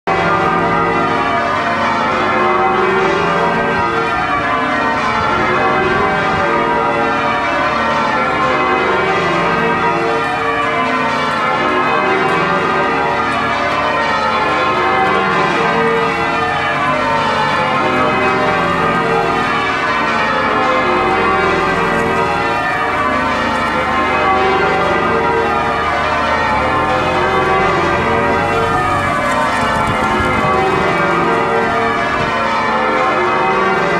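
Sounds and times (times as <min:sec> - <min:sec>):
church bells ringing: 0:00.0 - 0:33.9.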